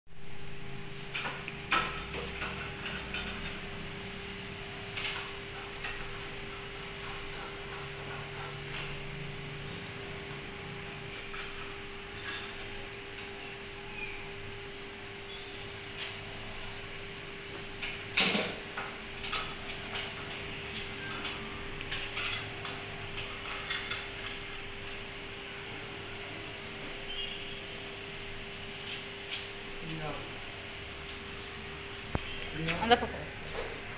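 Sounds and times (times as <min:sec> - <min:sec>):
steady hum: 0:00.1 - 0:33.9.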